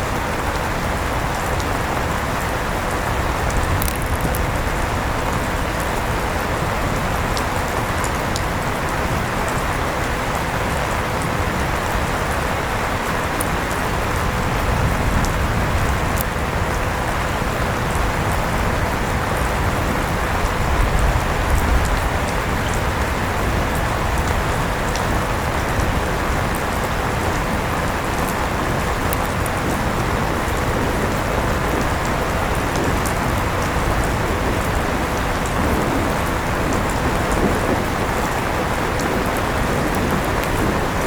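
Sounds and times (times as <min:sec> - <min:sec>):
steady rain hiss: 0:00.0 - 0:41.0.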